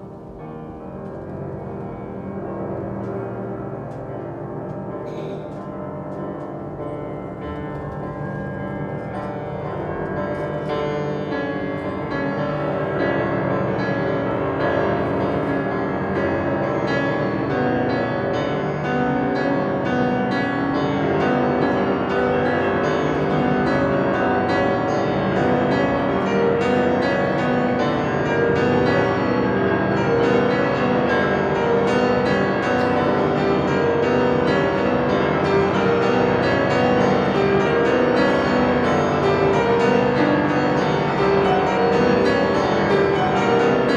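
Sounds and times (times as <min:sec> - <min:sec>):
piano and string orchestra: 0:00.0 - 0:43.9.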